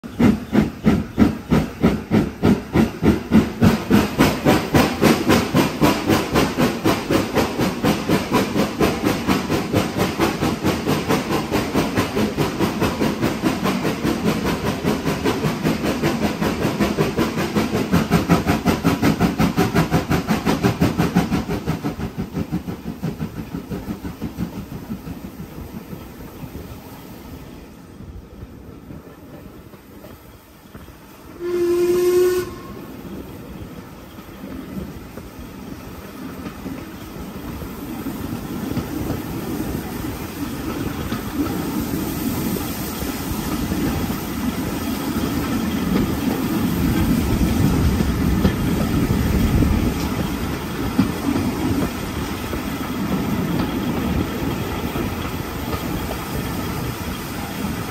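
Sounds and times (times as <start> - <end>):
steam locomotive chuffing: 0.0 - 57.9.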